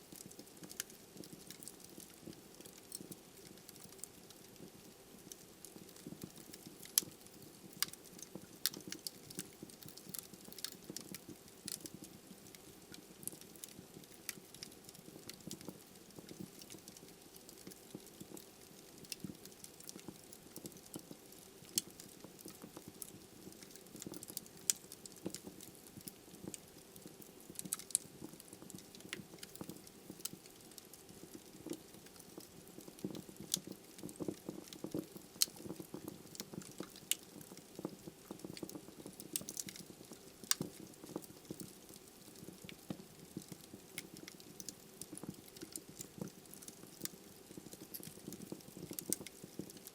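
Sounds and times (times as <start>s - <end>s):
logs crackling and popping: 0.0s - 49.9s.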